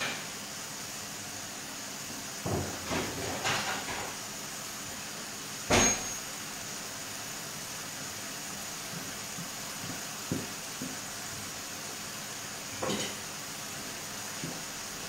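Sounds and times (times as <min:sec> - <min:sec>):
sauce simmering hiss: 0:00.0 - 0:15.0.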